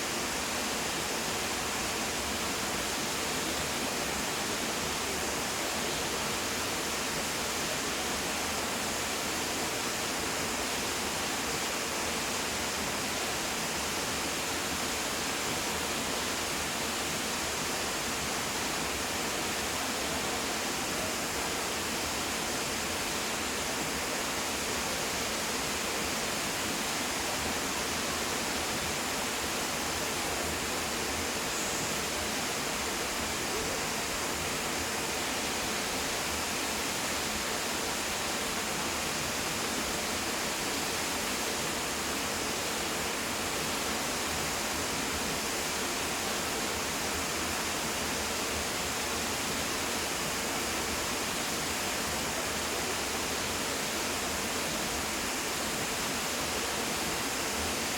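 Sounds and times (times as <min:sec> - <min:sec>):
waterfall roaring: 0:00.0 - 0:57.9.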